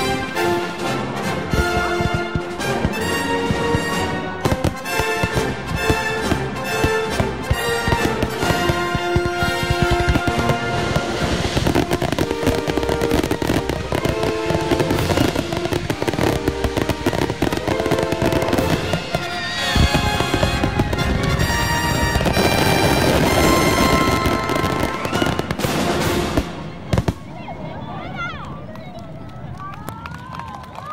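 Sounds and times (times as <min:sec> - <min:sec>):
music playing: 0:00.0 - 0:26.8
fireworks bursting: 0:01.2 - 0:27.3.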